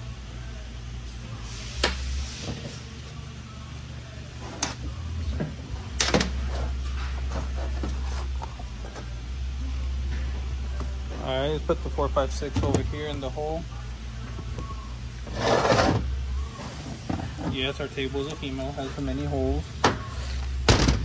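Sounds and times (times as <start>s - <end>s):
low hum: 3.1s - 21.0s.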